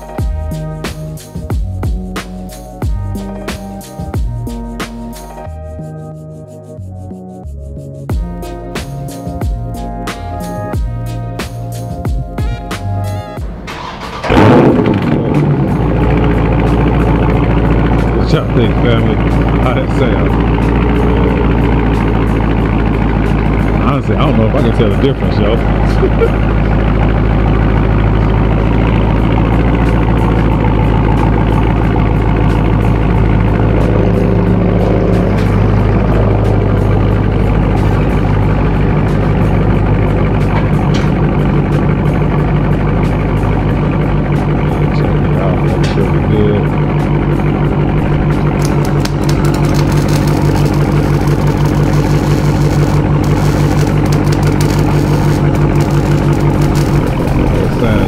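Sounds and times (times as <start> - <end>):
car engine idling: 8.1 - 58.0.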